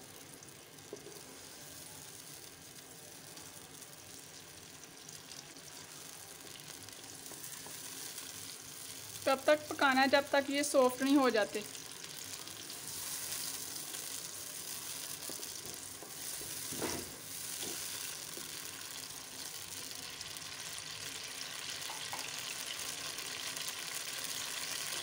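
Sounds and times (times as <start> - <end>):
tomatoes sizzling in hot oil: 0.0 - 25.0.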